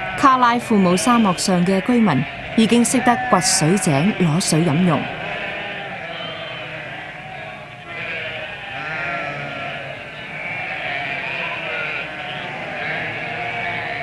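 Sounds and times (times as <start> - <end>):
sheep and goats bleating: 0.0 - 14.0.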